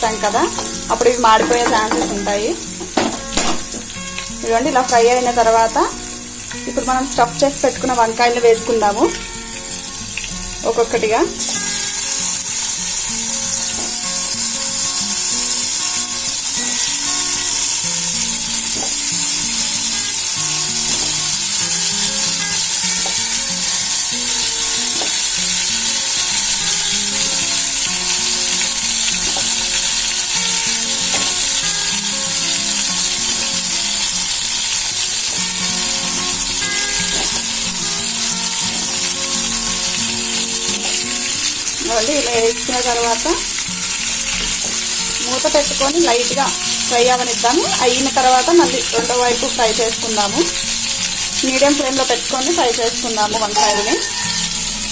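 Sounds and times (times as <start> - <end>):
hot oil sizzling: 0.0 - 54.9.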